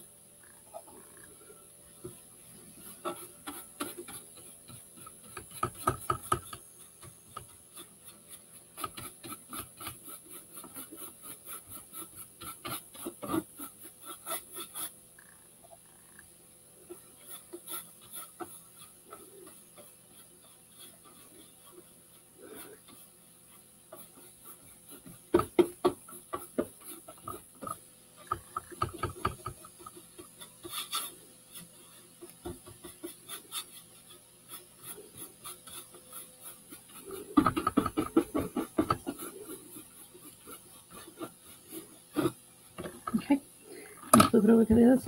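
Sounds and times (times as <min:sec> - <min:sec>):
paintbrush scrubbing cardboard: 0:02.0 - 0:15.4, 0:16.7 - 0:43.6, 0:44.3 - 0:45.0.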